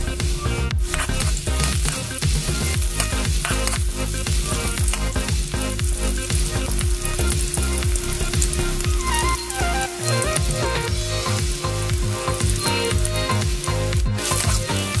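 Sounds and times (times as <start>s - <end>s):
onion sizzling in hot oil: 0.0s - 15.0s
metal spatula scraping a wok: 0.8s - 7.4s, 8.0s - 15.0s.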